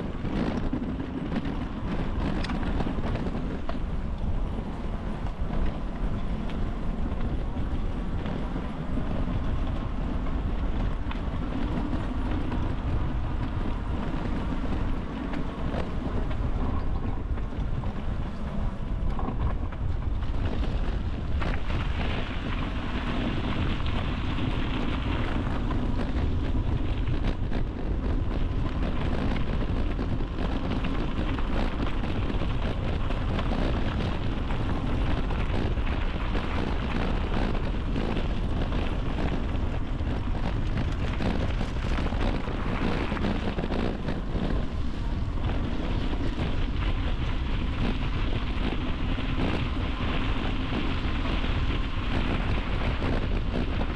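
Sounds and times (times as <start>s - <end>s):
bicycle tyres rolling on path: 0.0s - 53.9s
wind buffeting microphone: 0.0s - 53.9s.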